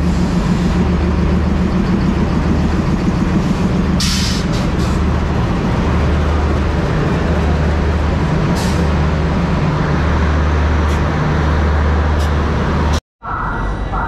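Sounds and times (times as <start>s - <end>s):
diesel locomotive engine idling: 0.0s - 14.0s.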